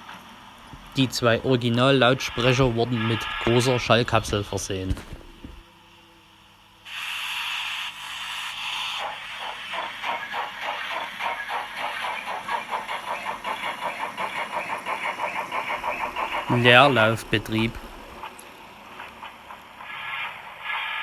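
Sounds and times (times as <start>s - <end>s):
steam hiss: 0.0s - 5.6s, 6.8s - 21.0s
steam locomotive chuffing: 0.0s - 5.6s, 6.9s - 21.0s.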